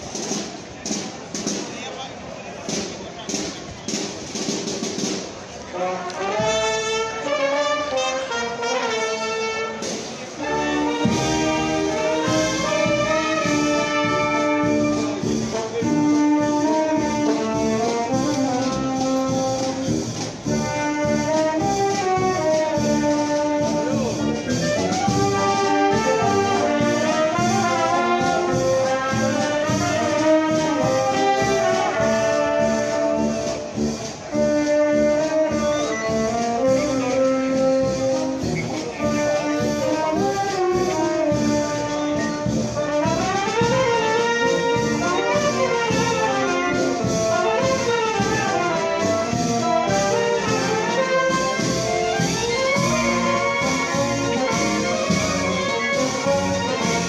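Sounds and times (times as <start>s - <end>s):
steady drum beat: 0.0s - 5.5s, 9.1s - 57.0s
brass band playing: 0.0s - 57.0s.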